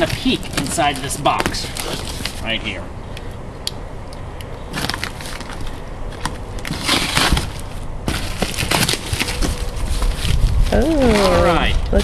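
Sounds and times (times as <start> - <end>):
packing paper crinkling: 0.0 - 2.6, 4.7 - 12.0.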